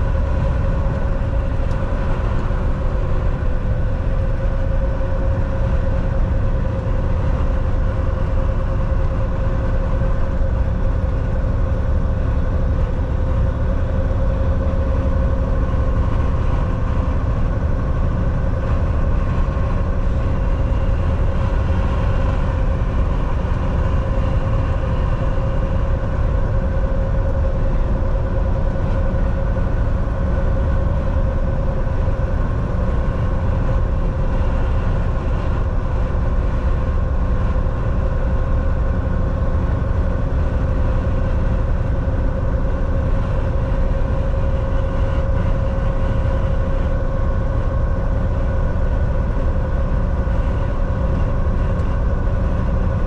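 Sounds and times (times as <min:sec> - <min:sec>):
steady hum: 0:00.0 - 0:53.0
truck engine and road noise: 0:00.0 - 0:53.0.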